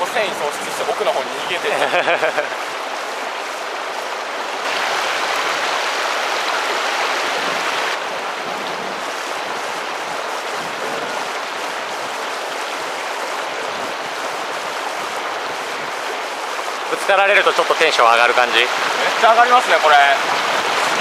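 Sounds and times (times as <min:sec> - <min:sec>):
water running over stones: 0:00.0 - 0:21.0.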